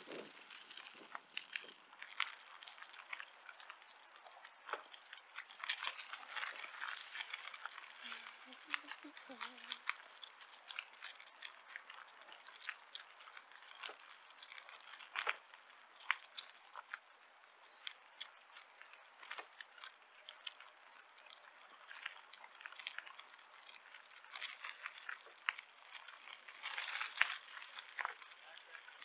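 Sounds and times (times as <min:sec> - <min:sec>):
bicycle clicks: 0:00.0 - 0:29.0
bicycle tyres crunching on trail: 0:00.0 - 0:29.0.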